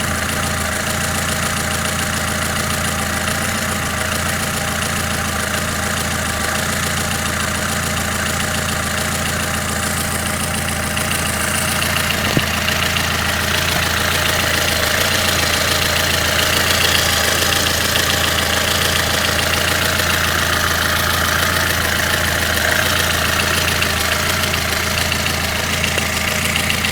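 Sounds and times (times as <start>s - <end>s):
car engine idling with light knocking: 0.0s - 26.9s.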